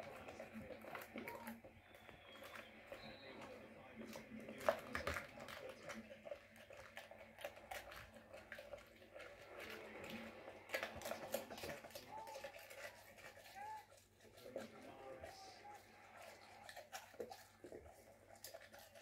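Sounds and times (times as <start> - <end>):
dog licking and chewing: 0.0 - 19.0.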